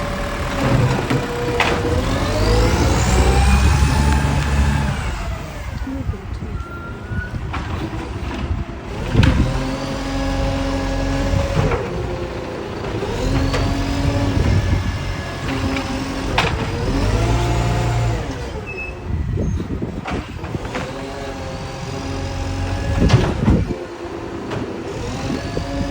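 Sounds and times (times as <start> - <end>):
engine revving: 0.0 - 6.1, 7.6 - 25.9.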